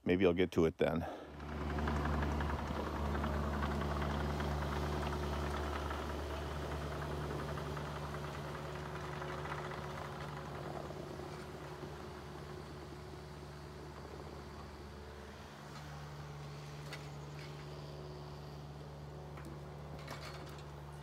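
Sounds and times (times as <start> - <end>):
excavator diesel engine running: 1.2 - 21.0.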